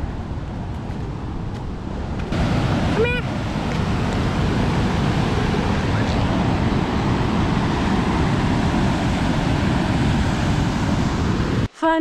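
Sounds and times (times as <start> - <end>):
rapids roaring: 0.0 - 11.7.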